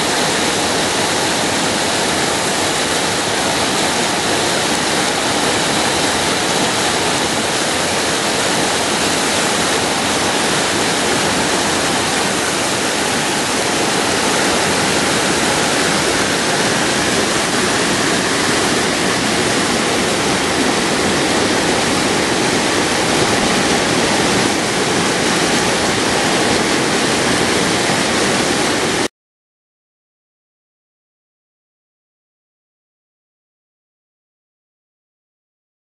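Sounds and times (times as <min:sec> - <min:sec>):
river water rushing: 0:00.0 - 0:29.1.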